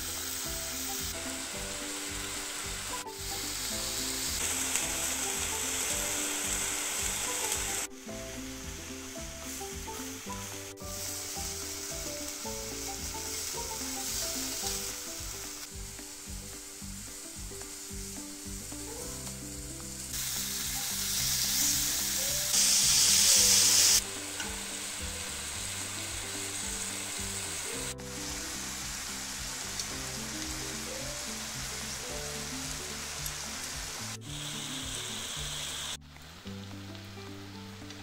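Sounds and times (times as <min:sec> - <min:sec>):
food sizzling in pan: 0:00.0 - 0:38.0.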